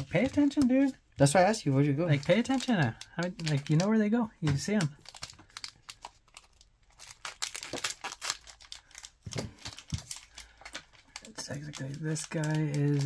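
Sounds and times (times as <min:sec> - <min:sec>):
cards clicking and rustling: 0:00.0 - 0:13.0.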